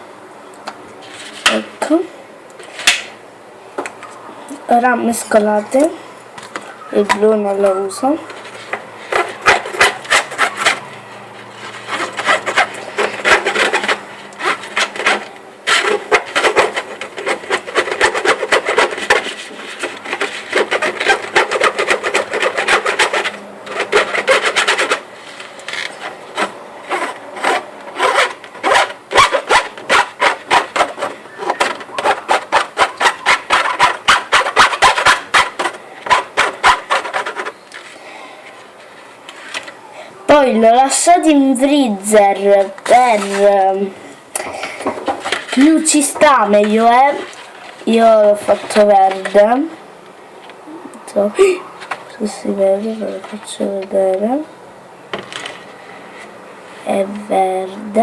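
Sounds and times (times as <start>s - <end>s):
utensil scraping container: 1.0s - 2.0s, 4.7s - 49.8s, 51.2s - 54.4s.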